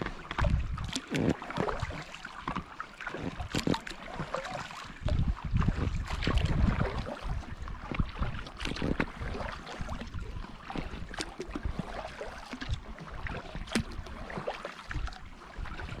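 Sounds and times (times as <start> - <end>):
kayak paddle strokes in water: 0.0 - 16.0
water drips and small splashes: 0.0 - 16.0.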